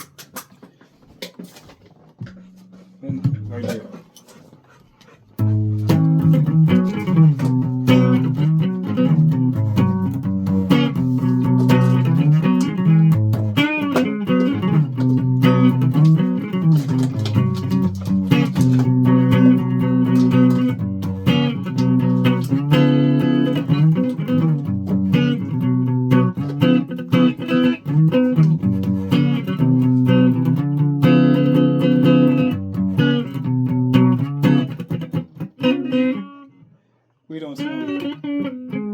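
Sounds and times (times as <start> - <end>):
guitar picking: 5.4 - 36.6, 37.5 - 38.9.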